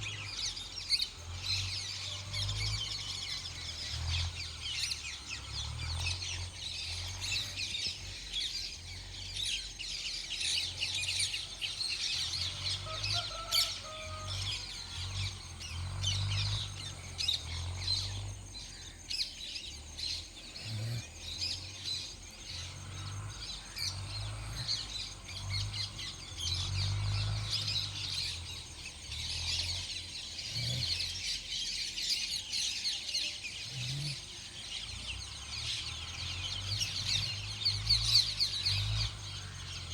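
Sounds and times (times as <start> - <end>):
birds chirping densely: 0.0 - 39.9.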